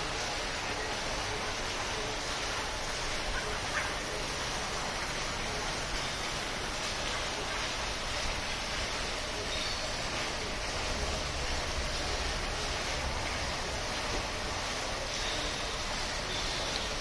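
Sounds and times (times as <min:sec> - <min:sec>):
fountain splashing: 0:00.0 - 0:17.0.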